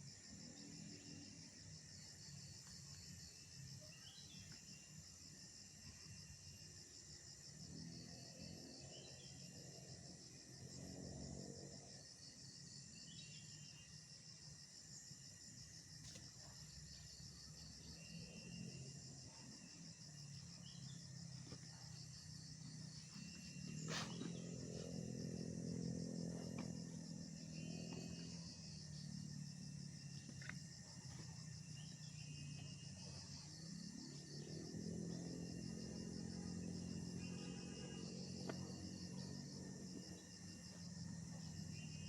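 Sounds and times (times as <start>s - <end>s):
insects chirping: 0.0s - 42.0s.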